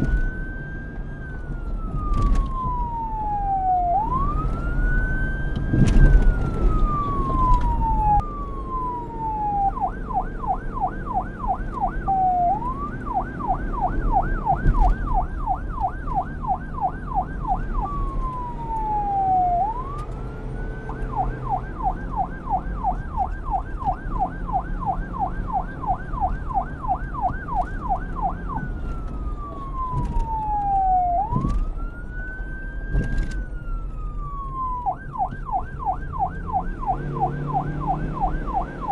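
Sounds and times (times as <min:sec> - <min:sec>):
police siren wailing and yelping: 0:00.0 - 0:38.9.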